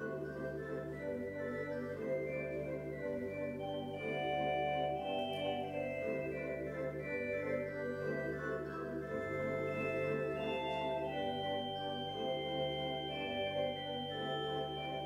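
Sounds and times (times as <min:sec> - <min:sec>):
organ playing: 0:00.0 - 0:15.0.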